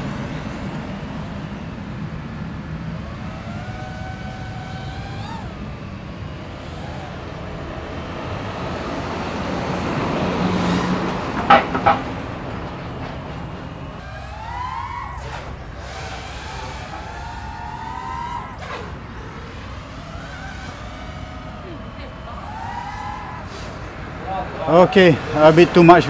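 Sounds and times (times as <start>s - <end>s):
drone propellers whining: 0.0s - 26.0s
road traffic: 0.0s - 26.0s.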